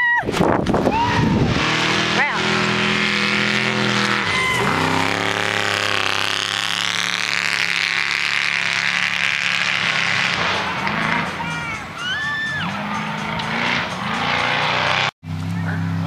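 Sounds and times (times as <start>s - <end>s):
truck engine revving: 0.4s - 16.0s.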